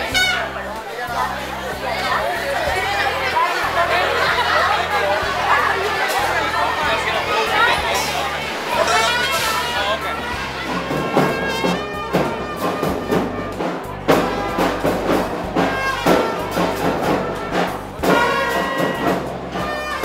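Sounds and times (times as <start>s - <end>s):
steady drum beat: 0.0s - 0.6s, 1.4s - 20.0s
marching band playing: 0.0s - 20.0s.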